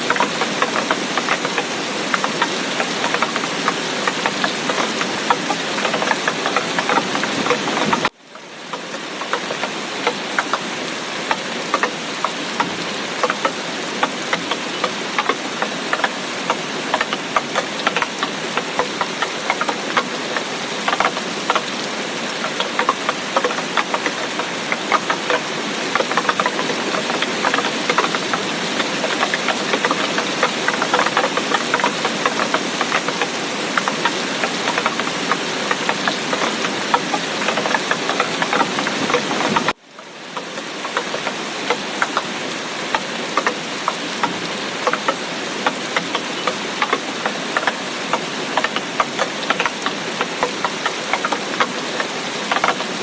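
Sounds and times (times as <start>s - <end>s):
heavy rain falling: 0.0s - 53.0s
ticks of raindrops striking: 0.0s - 53.0s.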